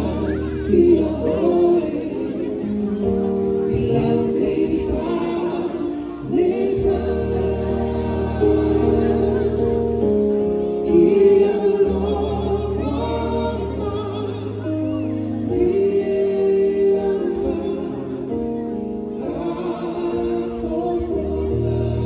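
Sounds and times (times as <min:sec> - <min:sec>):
hymn singing in harmony: 0:00.0 - 0:22.0
keyboard chords and bass: 0:00.0 - 0:22.0.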